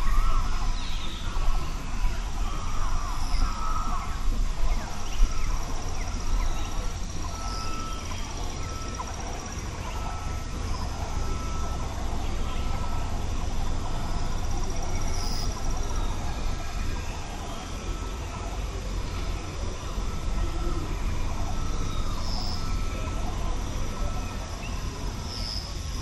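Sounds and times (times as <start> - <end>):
low steady rumble: 0.0 - 26.0
songbirds chirping: 0.0 - 26.0.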